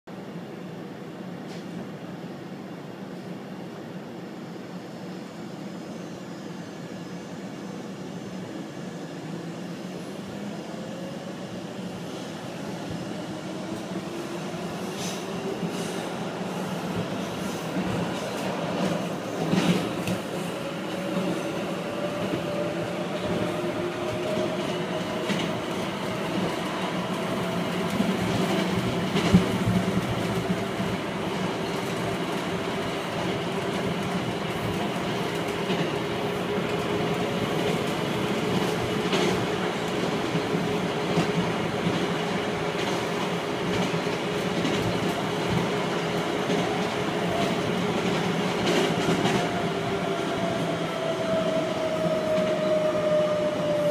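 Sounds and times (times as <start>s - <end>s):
train wheels on rails: 6.5s - 53.9s.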